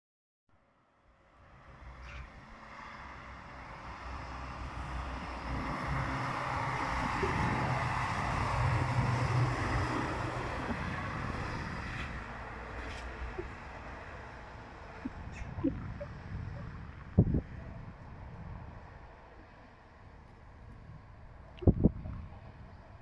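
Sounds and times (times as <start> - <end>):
diesel railcar passing: 0.6 - 23.0.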